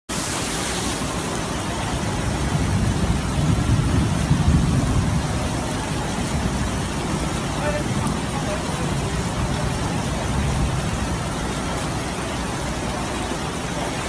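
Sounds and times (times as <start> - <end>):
floodwater rushing down a street: 0.1 - 14.0.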